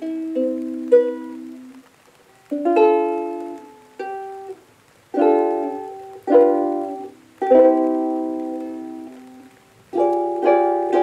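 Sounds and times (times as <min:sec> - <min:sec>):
ukulele chords ringing: 0:00.0 - 0:01.8, 0:02.4 - 0:11.0.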